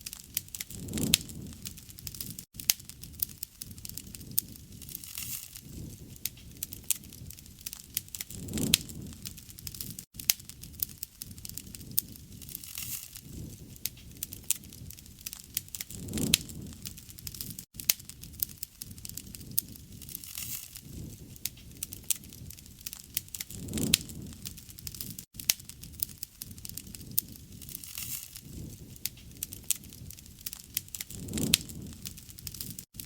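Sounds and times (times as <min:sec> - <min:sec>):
campfire crackling and popping: 0:00.0 - 0:33.0
low rumble of flame: 0:00.0 - 0:33.0.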